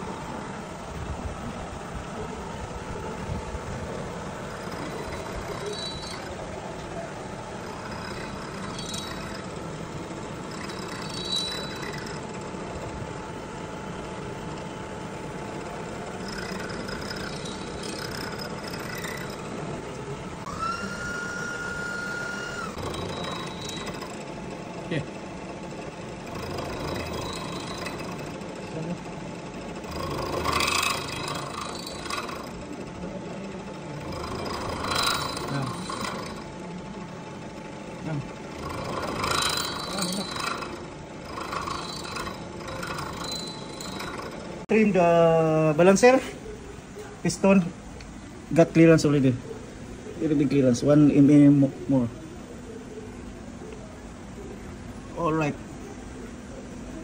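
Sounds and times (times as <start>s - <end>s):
milling machine humming: 0.0s - 57.0s.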